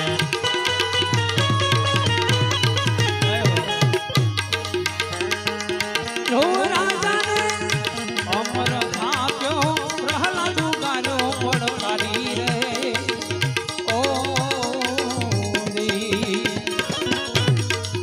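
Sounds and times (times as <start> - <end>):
devotional song music: 0.0 - 18.0
tabla rhythm: 0.0 - 18.0.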